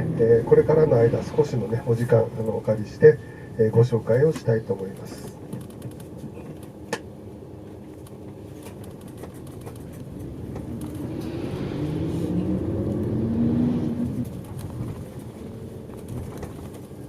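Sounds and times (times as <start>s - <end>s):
bus engine accelerating: 0.0s - 3.7s, 6.2s - 17.0s.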